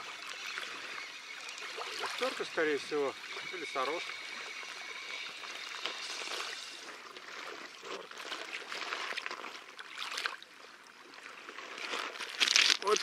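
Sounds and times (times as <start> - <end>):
fish splashing in water: 0.0 - 10.4.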